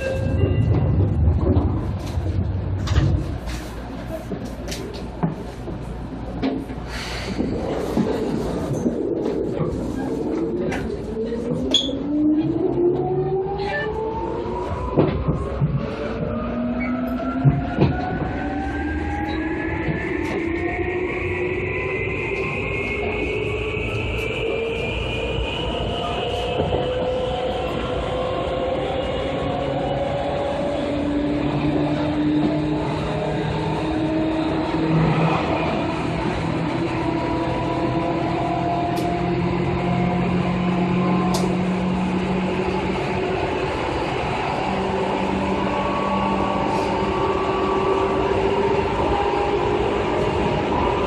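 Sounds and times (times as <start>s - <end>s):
wheels rumbling on rail: 0.0s - 51.0s.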